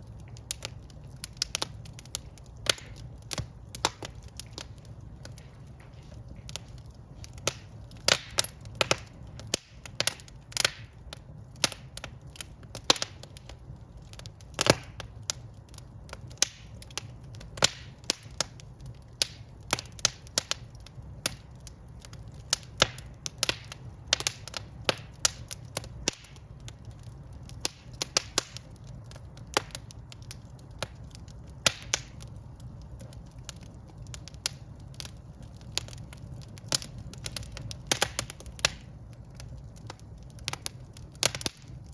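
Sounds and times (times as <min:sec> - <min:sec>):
logs crackling and popping: 0:00.0 - 0:41.9
low rumble of flames: 0:00.0 - 0:41.9.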